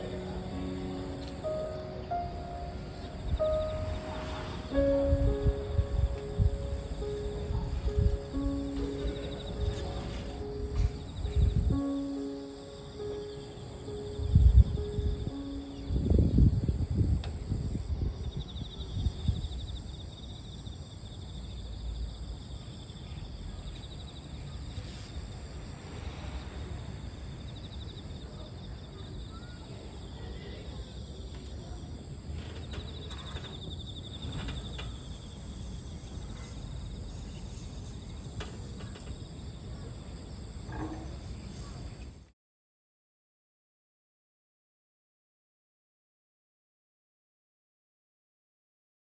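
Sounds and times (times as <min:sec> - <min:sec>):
insects chirring: 0:00.0 - 0:25.8, 0:26.4 - 0:42.2
low rumble of outdoor noise: 0:00.0 - 0:42.3.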